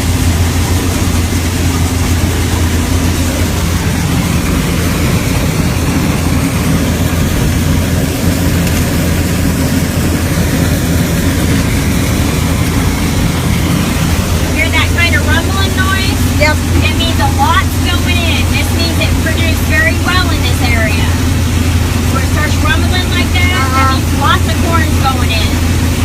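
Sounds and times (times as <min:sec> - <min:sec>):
combine harvester rumbling: 0:00.0 - 0:26.0.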